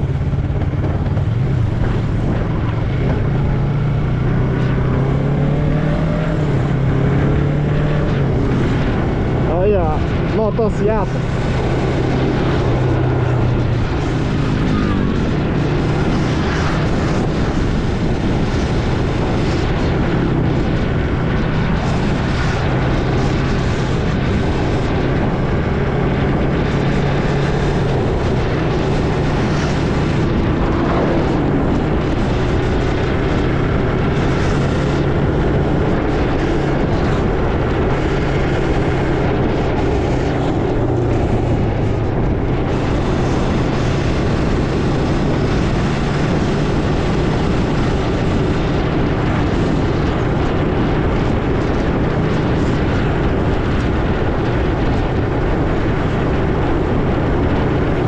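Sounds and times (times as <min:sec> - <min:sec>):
vehicle engine running: 0:00.0 - 0:58.0
wind rushing over microphone: 0:00.0 - 0:58.0.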